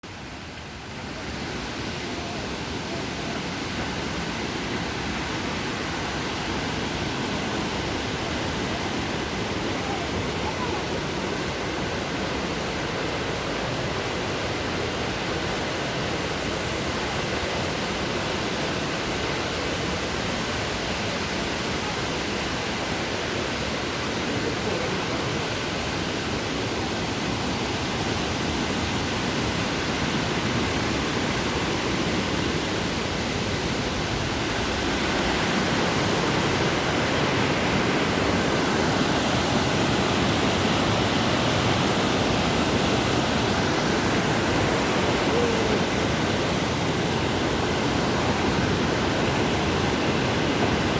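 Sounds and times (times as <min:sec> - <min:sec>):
water rushing: 0:00.0 - 0:50.9.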